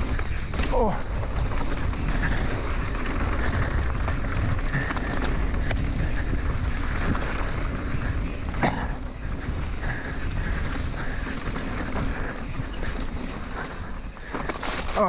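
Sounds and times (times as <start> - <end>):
bike clicks and knocks: 0.0 - 15.0
tyres rolling on dirt: 0.0 - 15.0
wind buffeting microphone: 0.0 - 15.0.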